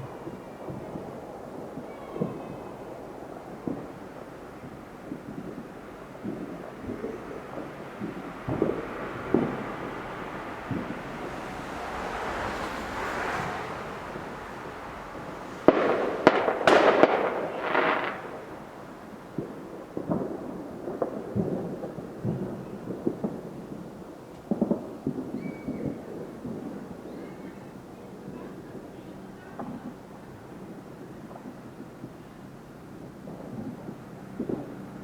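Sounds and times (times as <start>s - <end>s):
firework pops: 0.0s - 27.6s, 28.2s - 35.0s
fireworks bangs and crackling: 0.0s - 35.0s.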